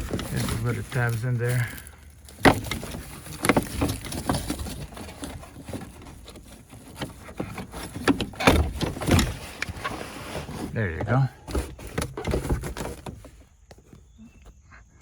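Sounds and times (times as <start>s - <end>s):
hands rubbing plastic: 0.0s - 14.3s.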